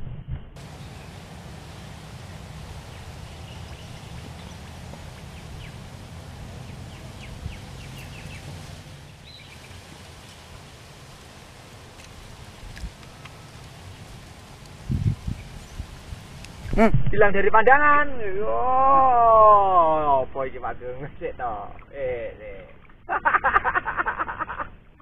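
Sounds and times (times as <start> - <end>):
low rumble and hiss: 0.6 - 25.0.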